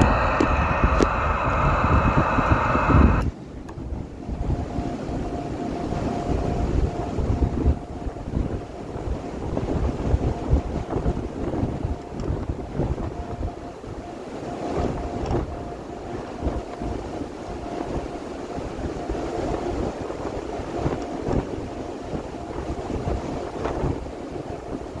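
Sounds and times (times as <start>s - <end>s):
gusty wind buffeting microphone: 0.0s - 25.0s
faint steady high tone: 3.9s - 25.0s
hissy whistling tone: 4.1s - 25.0s.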